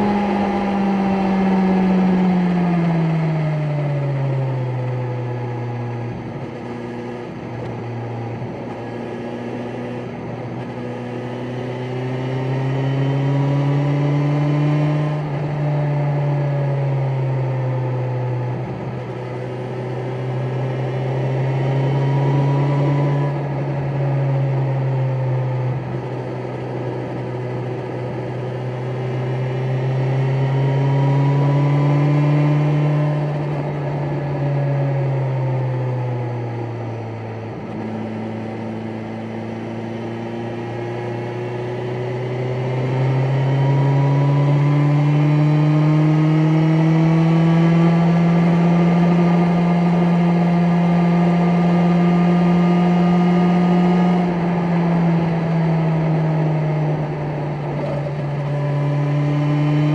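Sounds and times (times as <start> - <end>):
motorcycle engine pulling at low revs: 0.0 - 59.9.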